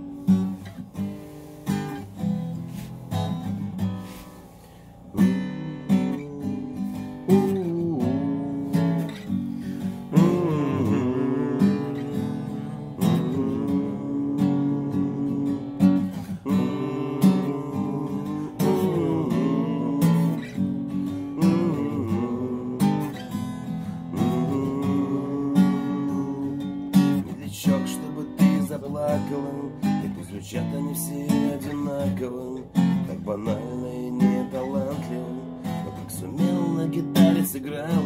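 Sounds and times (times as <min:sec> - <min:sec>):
strummed acoustic guitar: 0:00.0 - 0:38.0
person singing: 0:05.1 - 0:38.0.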